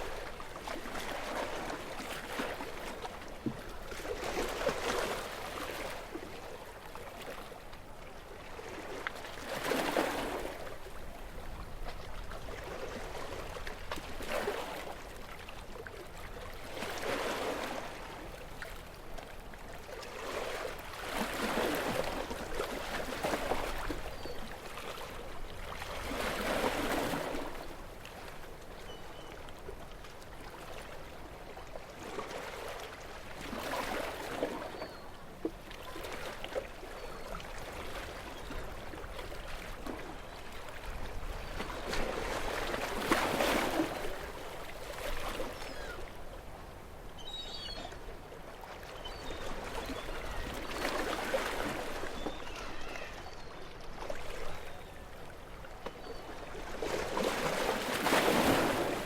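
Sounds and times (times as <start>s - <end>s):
gentle waves washing in: 0.0s - 59.0s.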